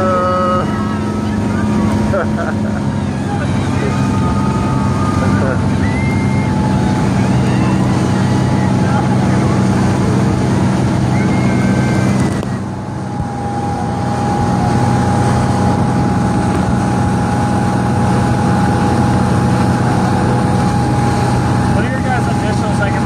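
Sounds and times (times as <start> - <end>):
motorboat engine running: 0.0 - 23.0
wind and wake noise: 0.0 - 23.0.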